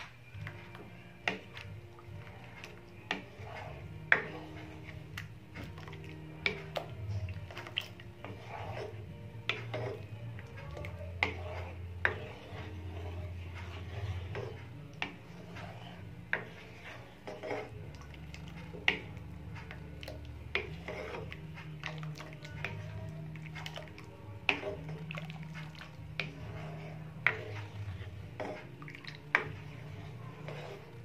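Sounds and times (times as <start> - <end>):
ladle scraping metal pan: 0.0 - 31.0.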